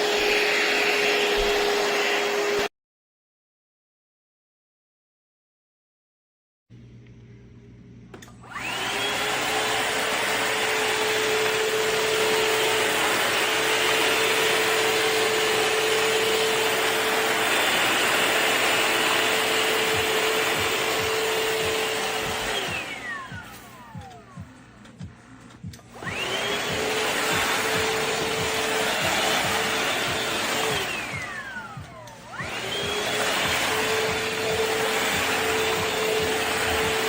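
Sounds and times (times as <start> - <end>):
vacuum motor whine: 0.0 - 2.7, 6.8 - 37.0.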